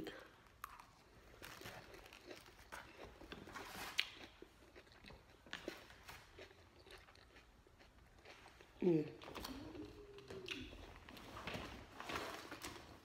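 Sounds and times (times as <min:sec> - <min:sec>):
person chewing lettuce: 0:00.4 - 0:11.3.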